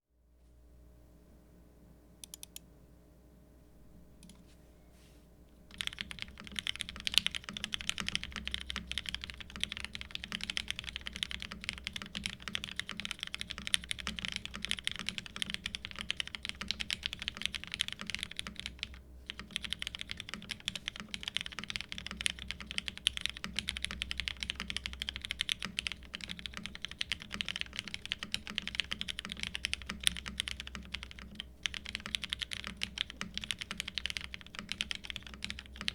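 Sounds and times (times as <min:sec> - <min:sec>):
fast typing on mechanical keyboard: 0:05.7 - 0:35.9.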